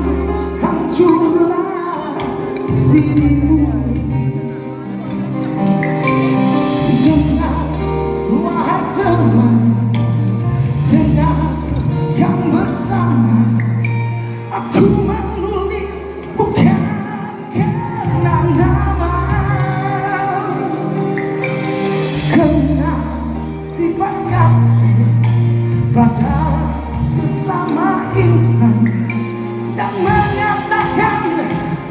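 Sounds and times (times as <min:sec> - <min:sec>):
band playing pop song: 0:00.0 - 0:31.9
person singing: 0:00.0 - 0:31.9
sustained bass notes: 0:00.0 - 0:31.9.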